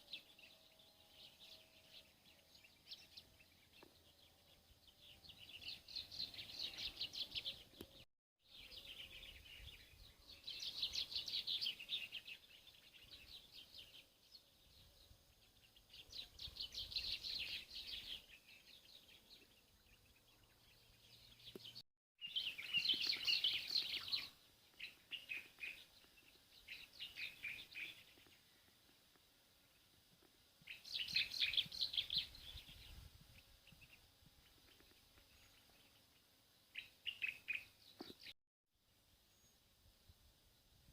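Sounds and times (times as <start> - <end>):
songbirds twittering: 0.0 - 30.0, 30.6 - 38.4.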